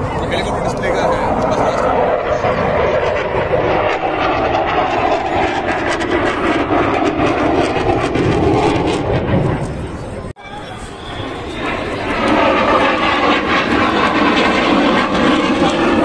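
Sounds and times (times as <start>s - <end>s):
fighter jet flying past: 0.0s - 16.0s.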